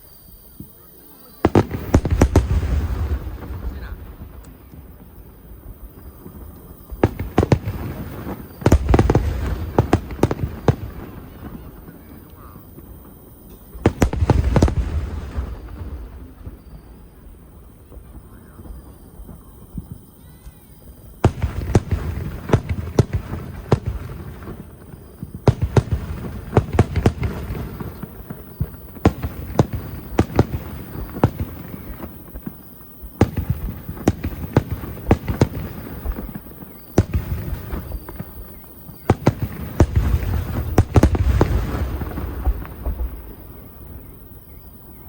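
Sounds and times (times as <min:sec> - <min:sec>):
fireworks bangs and crackling: 0:00.3 - 0:45.0.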